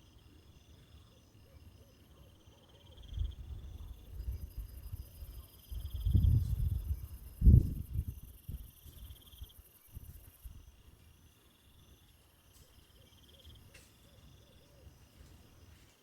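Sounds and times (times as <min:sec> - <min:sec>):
faint insects trilling: 0:00.0 - 0:16.0.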